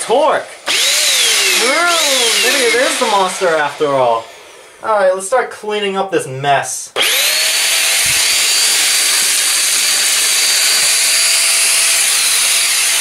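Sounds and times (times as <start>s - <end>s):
handheld vacuum whining: 0.0s - 4.9s, 7.0s - 13.0s.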